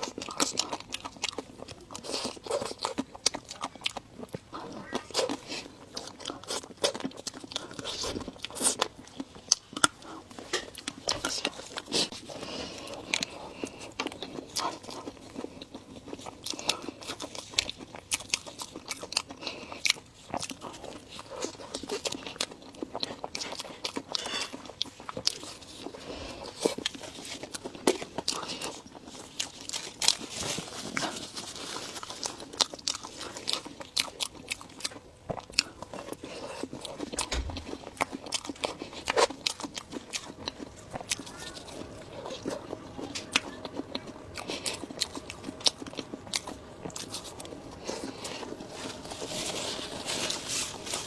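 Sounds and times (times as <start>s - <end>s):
food being bitten and chewed: 0.0s - 51.0s.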